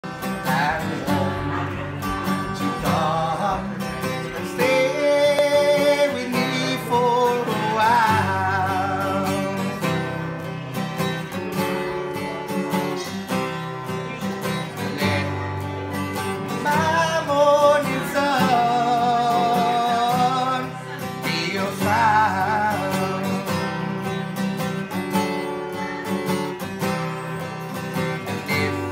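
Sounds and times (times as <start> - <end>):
man singing: 0.0 - 25.1, 27.7 - 28.9
acoustic guitars strummed: 0.0 - 28.9.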